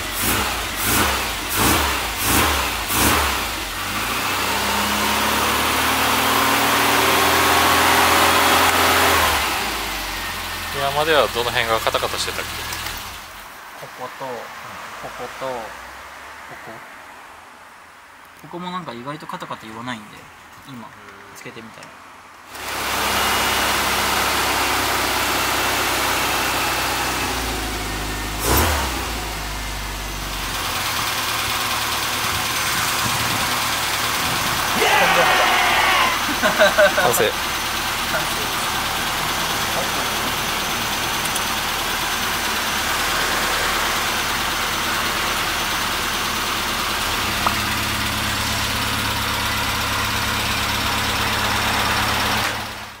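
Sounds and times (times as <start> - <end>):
car engine idling: 0.0 - 14.5, 22.6 - 53.0.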